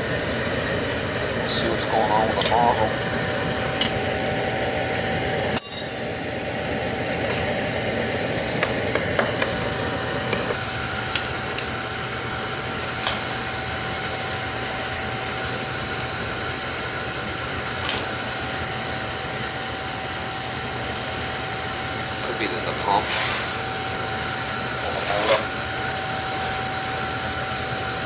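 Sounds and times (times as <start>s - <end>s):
oil burner high-pitched whine: 0.0s - 28.0s.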